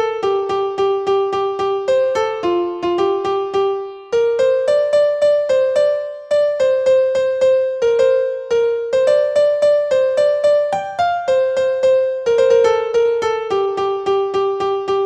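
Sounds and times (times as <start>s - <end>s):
keyboard playing simple melody: 0.0s - 15.0s.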